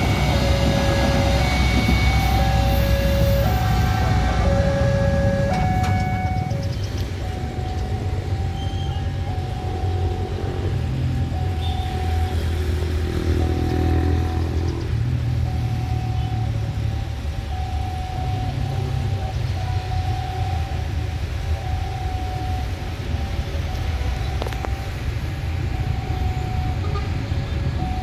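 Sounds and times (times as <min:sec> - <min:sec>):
distant locomotive rumble: 0:00.0 - 0:28.0.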